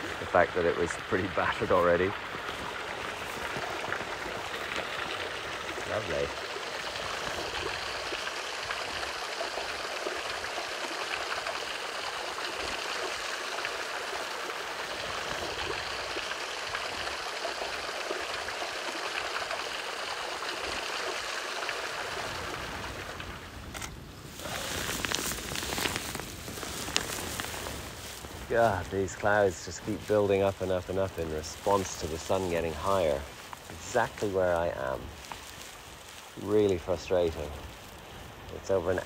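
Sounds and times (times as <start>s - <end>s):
water splashing on rocks: 0.0s - 39.0s.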